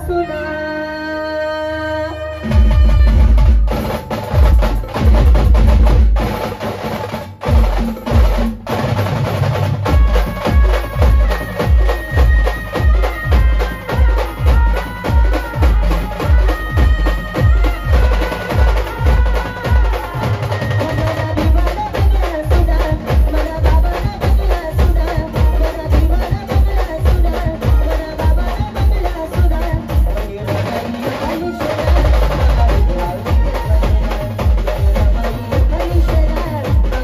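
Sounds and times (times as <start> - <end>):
street band through loudspeakers: 0.0 - 37.0.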